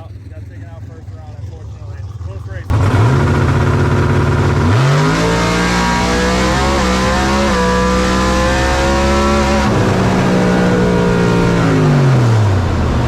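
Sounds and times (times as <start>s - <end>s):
race car engine at full throttle: 0.0s - 13.0s.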